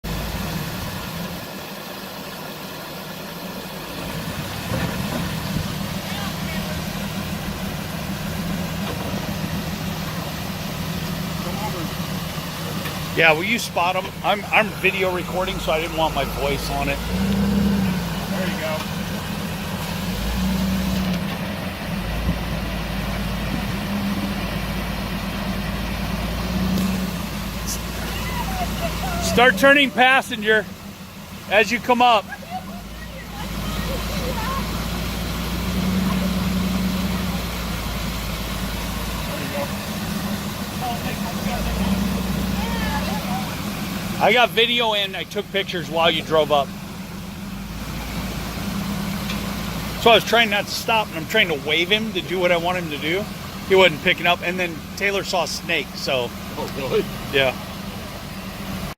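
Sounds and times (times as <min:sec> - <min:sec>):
vehicle engine idling: 0:00.0 - 0:58.9.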